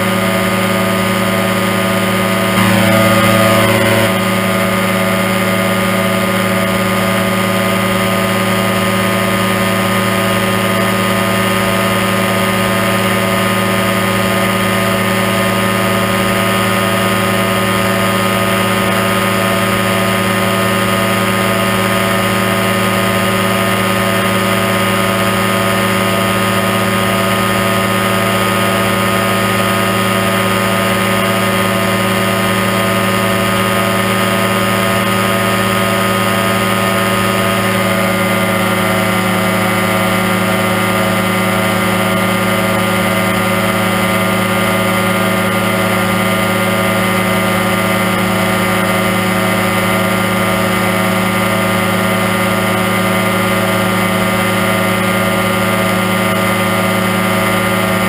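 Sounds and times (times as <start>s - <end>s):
engine and propeller running: 0.0s - 58.0s.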